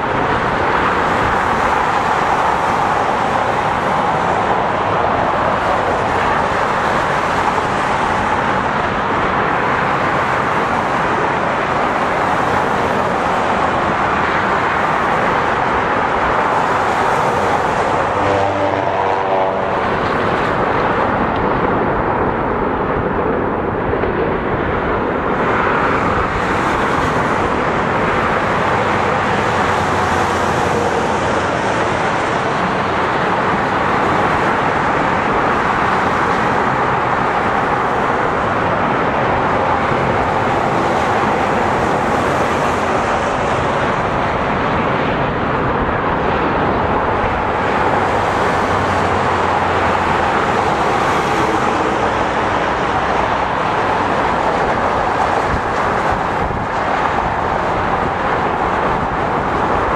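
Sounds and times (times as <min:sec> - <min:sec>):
river rapids: 0:00.0 - 0:22.0, 0:25.2 - 0:59.9.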